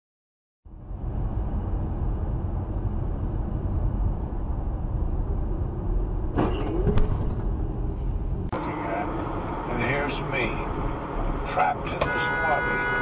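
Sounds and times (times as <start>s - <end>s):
car driving road rumble: 0.7s - 13.0s.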